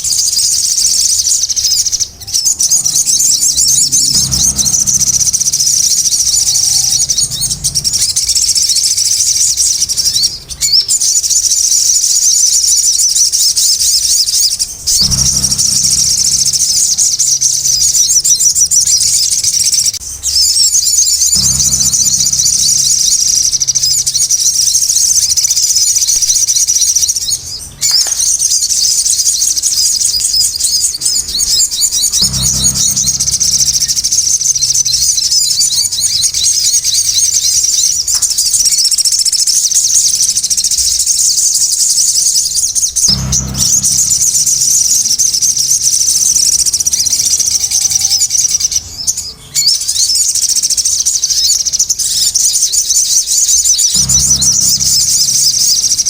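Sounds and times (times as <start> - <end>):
birds chattering: 0.0 - 56.0.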